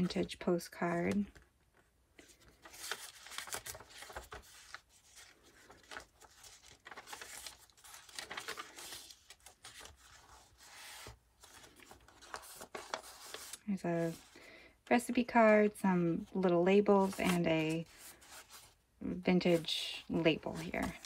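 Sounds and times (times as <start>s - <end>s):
paper pages rustling and crinkling: 0.1s - 18.8s, 19.4s - 21.0s.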